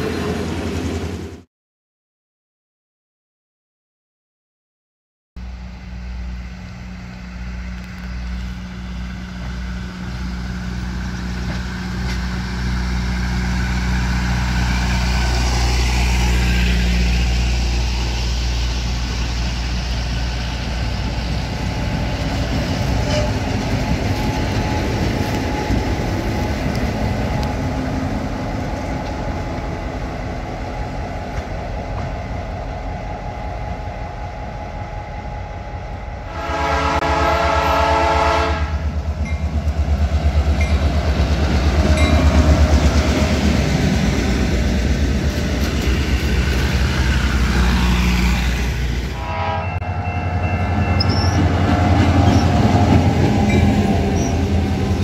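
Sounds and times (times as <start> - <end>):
diesel locomotive engine drone: 0.0 - 1.5, 5.4 - 55.0
steel wheels on rail: 5.4 - 55.0.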